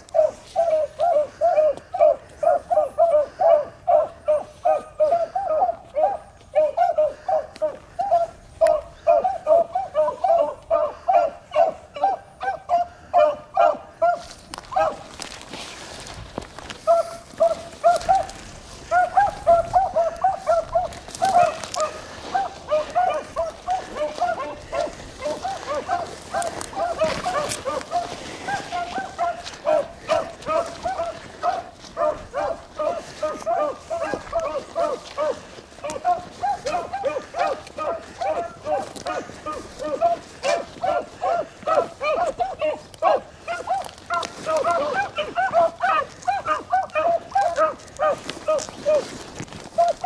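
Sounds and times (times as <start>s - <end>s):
hounds baying: 0.0s - 50.0s.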